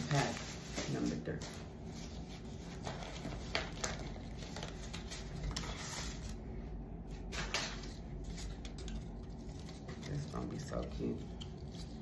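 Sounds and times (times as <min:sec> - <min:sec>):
plastic pack rustling and crinkling: 0:00.0 - 0:06.4, 0:07.2 - 0:12.0.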